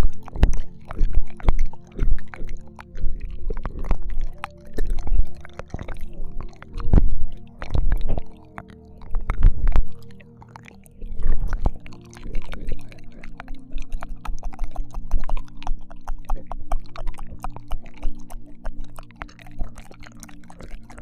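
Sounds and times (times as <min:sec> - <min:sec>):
steady low drone: 0:00.0 - 0:21.0
wet mouth clicks and smacks: 0:00.0 - 0:21.0.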